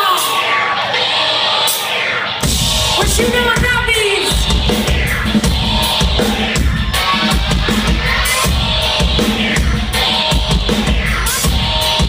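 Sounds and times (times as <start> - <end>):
live noise-pop band music: 0.0 - 12.0
pounding drum beat: 1.9 - 12.0.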